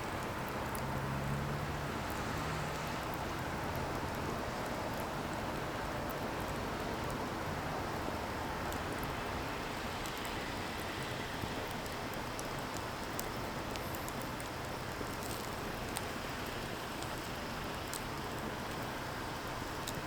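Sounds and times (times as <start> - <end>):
firewood crackling: 1.6 - 20.0.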